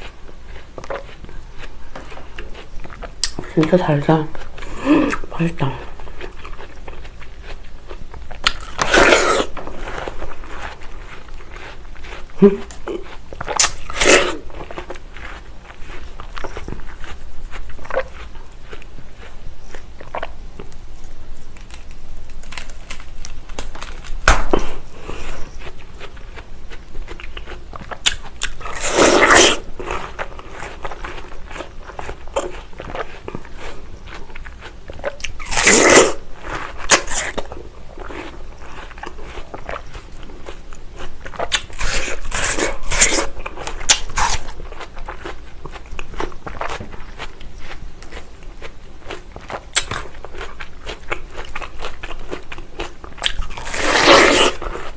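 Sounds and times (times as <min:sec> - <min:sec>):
crunchy juicy watermelon bites: 0:00.0 - 0:54.9.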